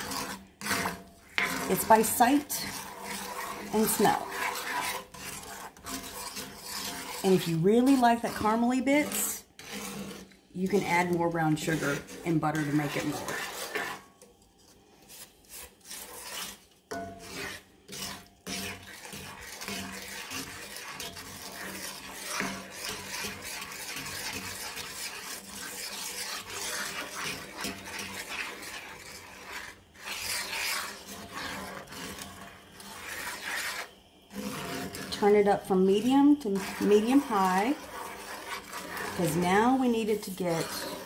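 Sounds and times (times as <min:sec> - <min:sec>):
wooden spoon stirring in skillet: 0:00.0 - 0:41.0.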